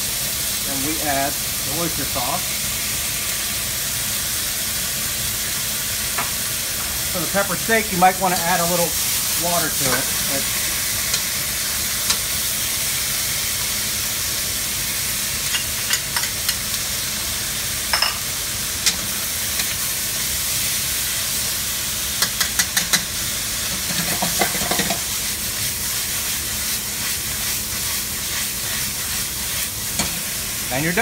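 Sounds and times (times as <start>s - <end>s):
meat and onions sizzling in wok: 0.0s - 31.0s.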